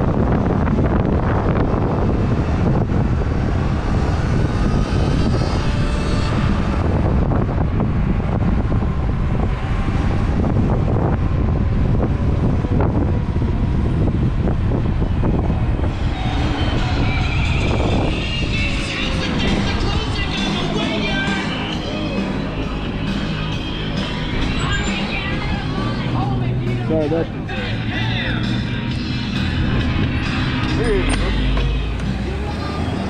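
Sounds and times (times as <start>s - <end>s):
wind buffeting microphone: 0.0s - 27.6s, 28.2s - 33.0s.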